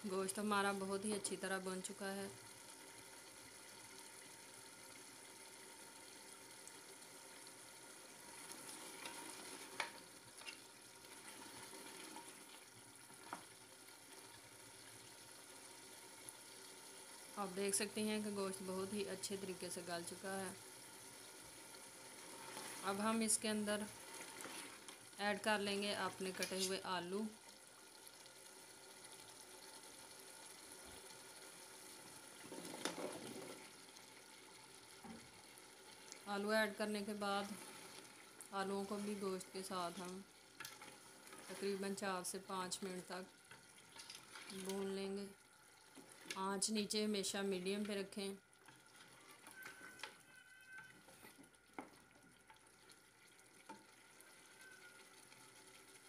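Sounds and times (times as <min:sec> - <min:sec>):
meat sizzling in a pot: 0:00.3 - 0:48.1, 0:48.8 - 0:51.0, 0:51.7 - 0:56.0.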